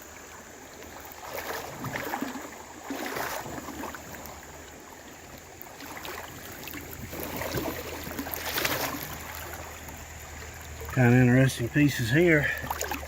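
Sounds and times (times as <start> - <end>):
stream rushing: 0.0 - 13.0
water splashing from wading: 0.0 - 13.0.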